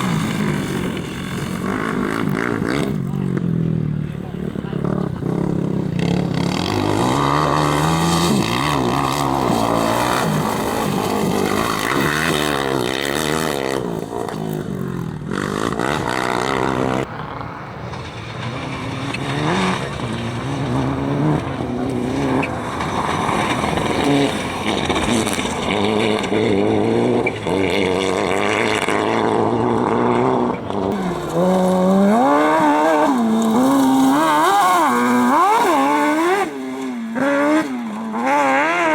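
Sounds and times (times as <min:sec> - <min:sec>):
car engines revving hard: 0:00.0 - 0:38.9.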